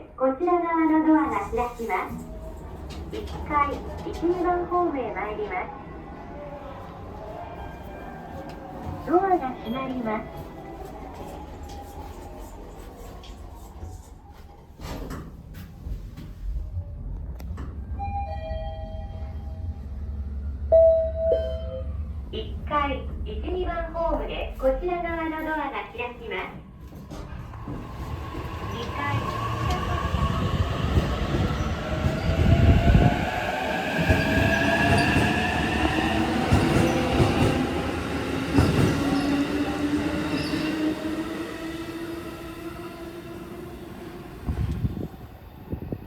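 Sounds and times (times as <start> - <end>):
rumble of train wheels: 0.0 - 46.0.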